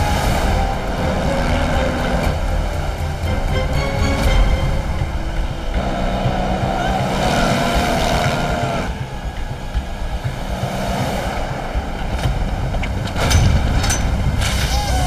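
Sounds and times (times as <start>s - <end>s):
motorboat engine drone: 0.0s - 15.0s
wind: 0.0s - 15.0s.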